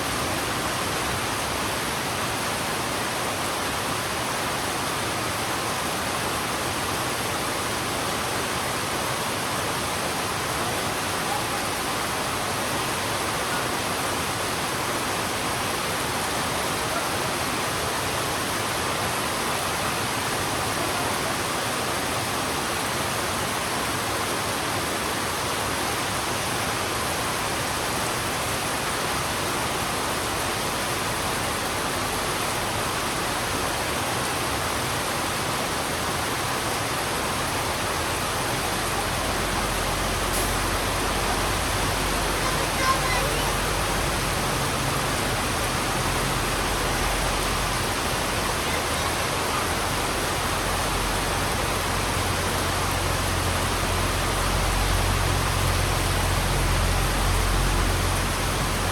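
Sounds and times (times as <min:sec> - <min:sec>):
heavy rain on a road: 0:00.0 - 0:58.9.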